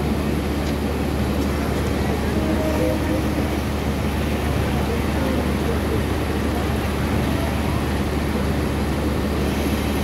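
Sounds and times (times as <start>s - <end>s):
train droning at low speed: 0.0s - 10.0s.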